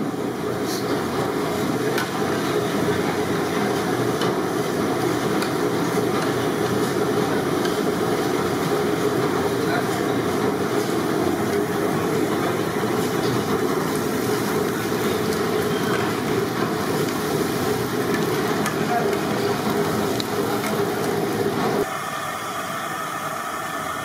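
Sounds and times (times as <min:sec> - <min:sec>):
roar of busy cooking area: 0:00.0 - 0:24.0.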